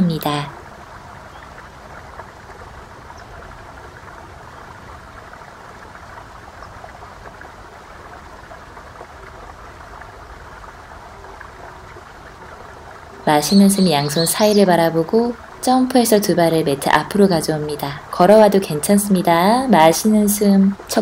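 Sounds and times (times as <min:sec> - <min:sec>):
stream of running water: 0:00.0 - 0:21.0.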